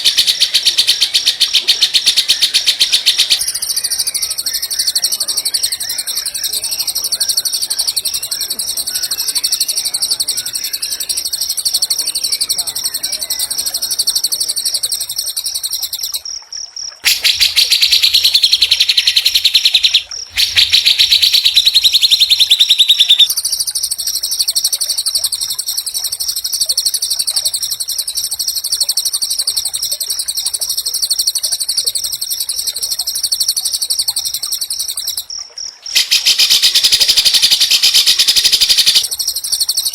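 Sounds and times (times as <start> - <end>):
bird singing high-pitched trills: 0.0 - 16.2, 17.0 - 35.3, 35.9 - 39.9
rapid repeated bird notes: 0.0 - 16.2, 17.0 - 35.2, 35.8 - 39.9.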